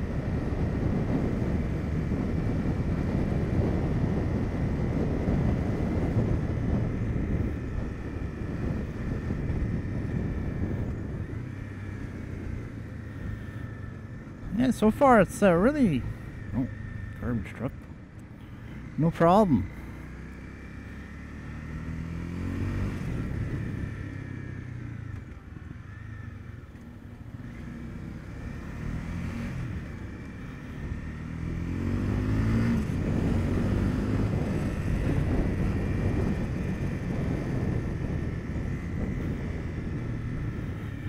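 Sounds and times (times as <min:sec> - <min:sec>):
motorcycle engine accelerating: 0:00.0 - 0:41.0
wind and road noise: 0:00.0 - 0:41.0.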